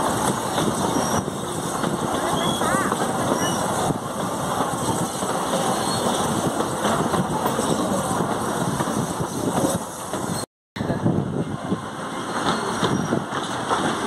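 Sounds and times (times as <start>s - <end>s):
wind buffeting microphone: 0.0s - 13.9s
train coaches rumbling and rattling: 0.0s - 14.0s.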